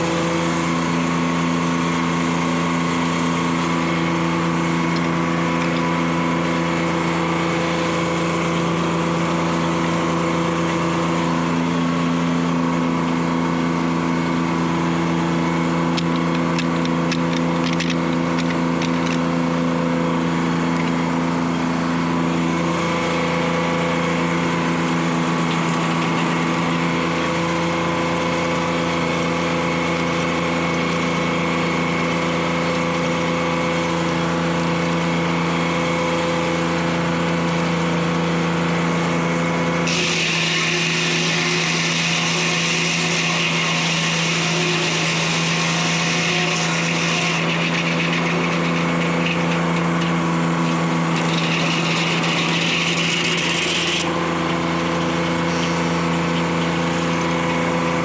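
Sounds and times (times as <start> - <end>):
diesel engine drone: 0.0 - 43.2, 47.3 - 58.0.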